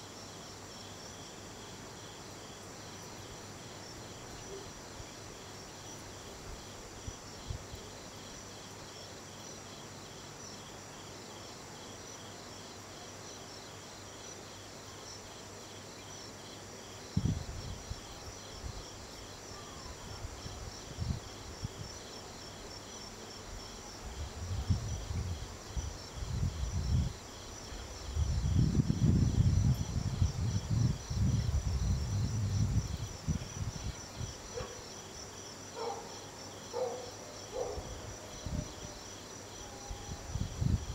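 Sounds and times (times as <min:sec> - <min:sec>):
night insects chirping: 0:00.0 - 0:40.9.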